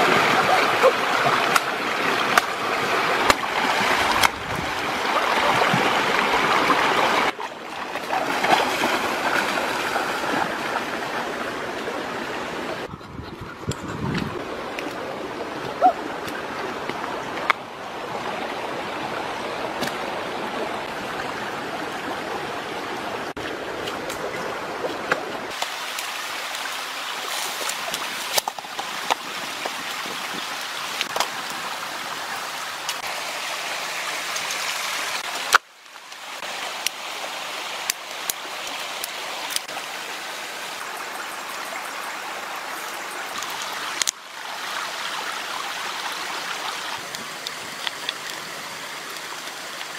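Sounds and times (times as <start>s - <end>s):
creek rushing over rocks: 0.0s - 13.0s, 13.9s - 49.9s.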